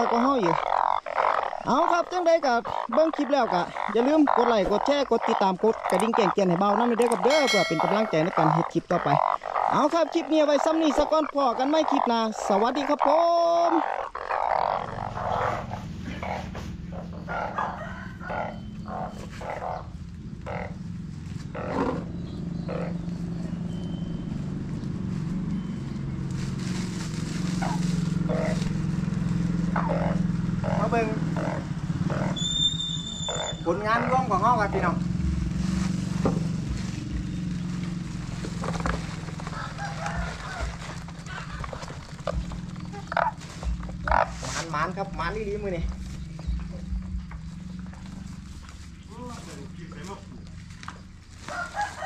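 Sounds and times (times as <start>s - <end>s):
frogs croaking: 0.0s - 52.0s.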